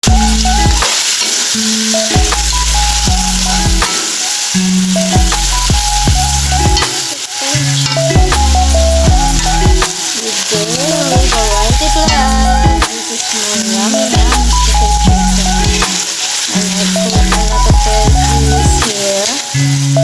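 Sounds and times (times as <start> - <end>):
background music with bass: 0.0 - 0.9, 1.6 - 20.0
chicken sizzling in a pan: 0.0 - 20.0.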